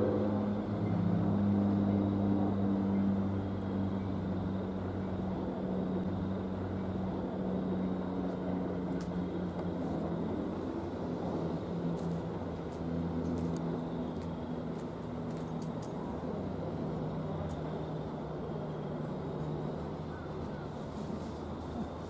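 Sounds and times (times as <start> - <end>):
locomotive engine drone: 0.0 - 22.0.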